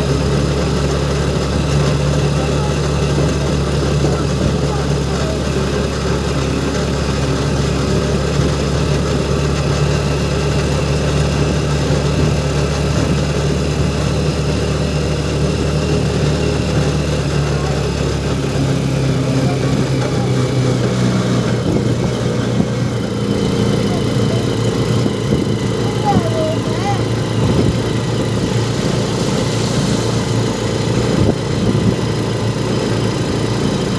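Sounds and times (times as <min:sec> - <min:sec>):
engine humming: 0:00.0 - 0:33.9.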